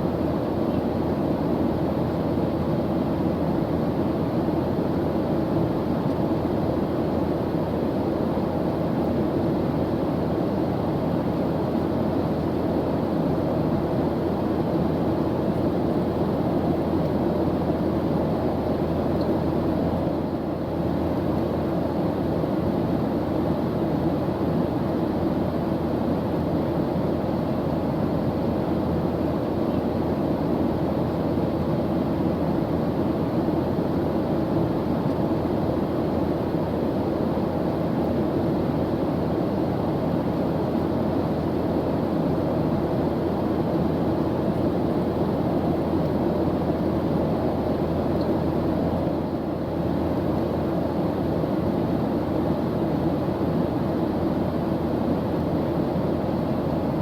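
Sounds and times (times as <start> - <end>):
airplane engine in flight: 0.0 - 57.0.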